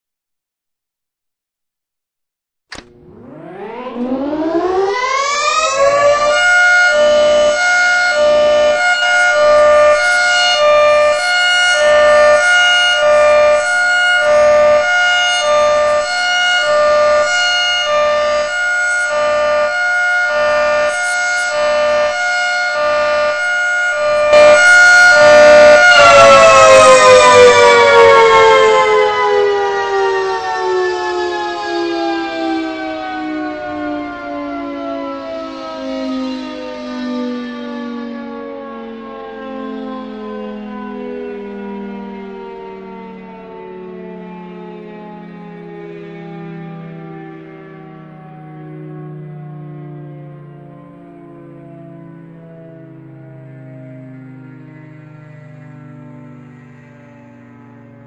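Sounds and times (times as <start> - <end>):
three-tone siren winding up and down: 2.7 - 58.0.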